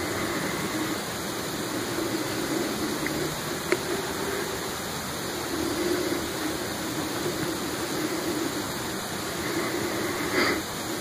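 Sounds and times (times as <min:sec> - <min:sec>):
rushing background noise: 0:00.0 - 0:11.0.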